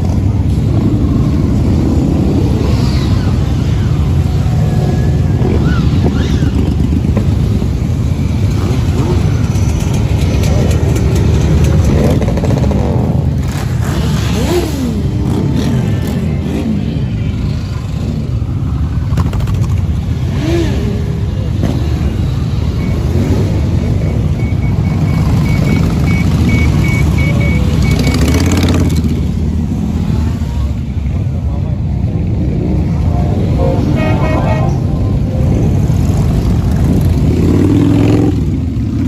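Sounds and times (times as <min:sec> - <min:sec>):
motorcycle engines rumbling: 0:00.0 - 0:39.0
motorcycles revving and passing: 0:00.0 - 0:39.0.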